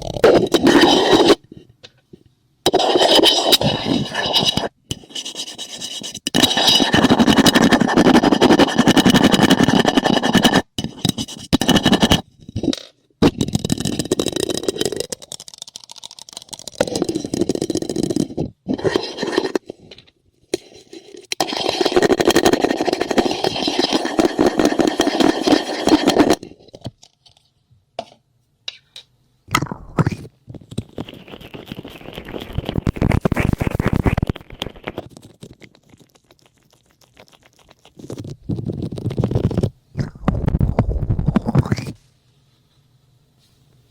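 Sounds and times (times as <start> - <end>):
scratching and rubbing on microphone: 0.0 - 1.5, 2.7 - 12.7, 13.5 - 19.7, 20.6 - 26.5, 30.0 - 42.0.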